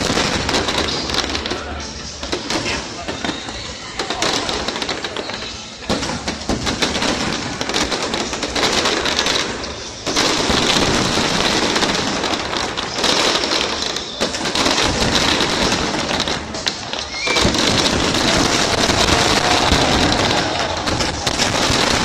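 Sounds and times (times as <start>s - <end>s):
firework shell bursts and crackle: 0.0s - 22.0s.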